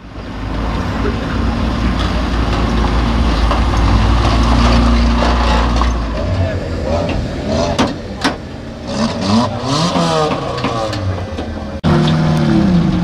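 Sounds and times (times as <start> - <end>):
car engines low rumble: 0.0 - 13.0.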